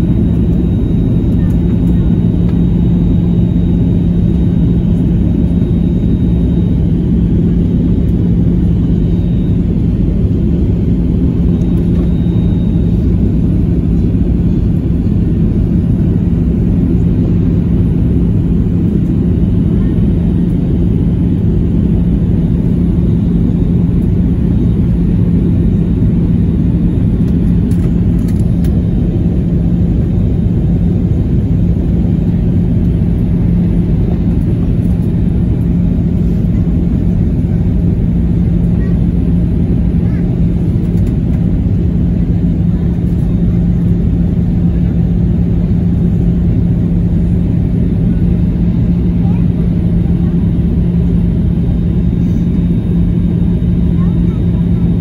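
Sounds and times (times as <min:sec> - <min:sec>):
airplane cabin engine rumble: 0:00.0 - 0:55.0
constant low hum: 0:00.0 - 0:55.0.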